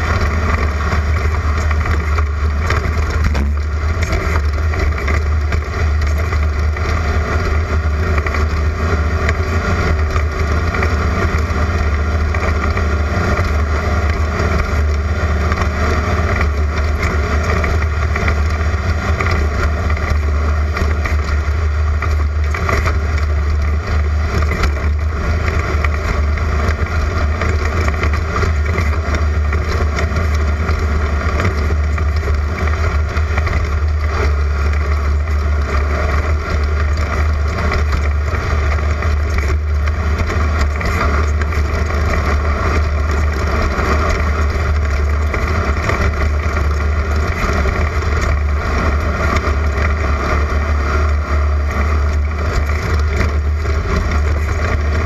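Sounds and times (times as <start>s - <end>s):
race car engine running hard: 0.0s - 55.0s
terrain noise: 0.0s - 55.0s.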